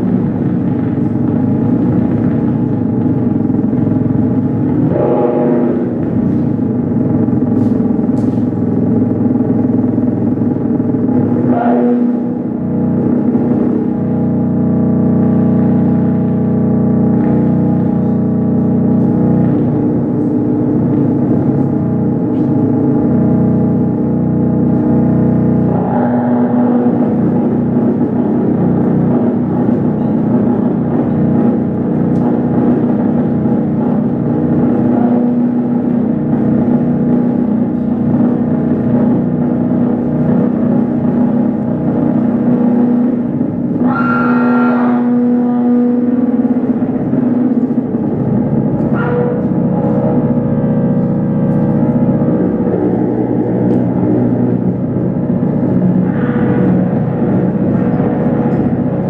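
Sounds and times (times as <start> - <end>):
electric guitar drone: 0.0 - 59.0
steady low hum: 0.0 - 59.0.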